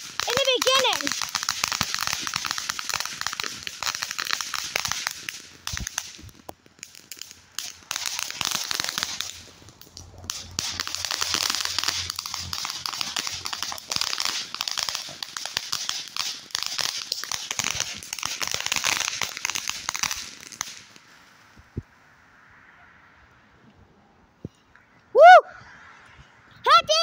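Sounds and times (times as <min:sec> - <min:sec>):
firework hissing and crackling: 0:00.0 - 0:23.2.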